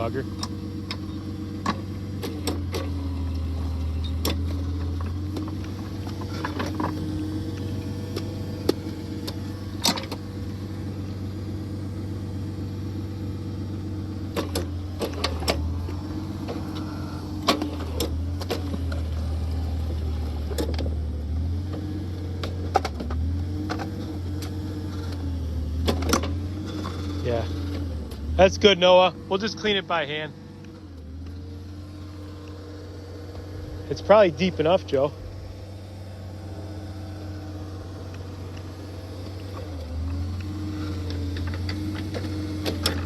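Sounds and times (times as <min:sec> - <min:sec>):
auger engine running: 0:00.0 - 0:43.0.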